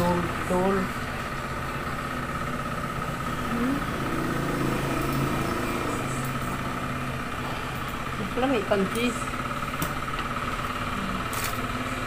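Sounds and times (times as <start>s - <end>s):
low engine-like drone: 0.0s - 12.0s
mechanical hum with high whine: 0.0s - 12.0s.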